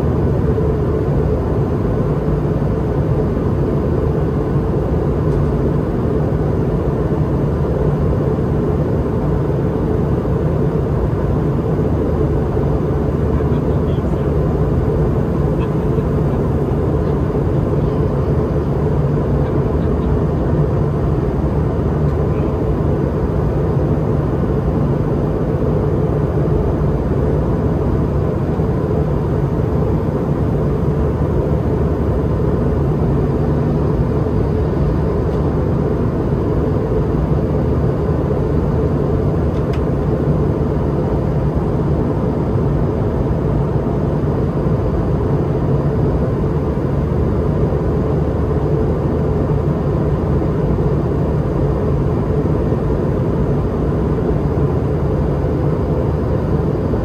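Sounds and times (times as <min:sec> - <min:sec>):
faint steady whine: 0:00.0 - 0:57.0
jet engine drone: 0:00.0 - 0:57.0.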